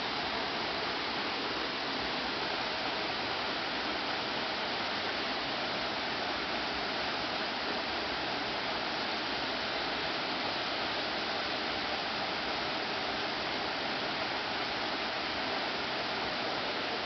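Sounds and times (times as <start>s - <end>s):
rocky stream flowing: 0.0s - 17.0s.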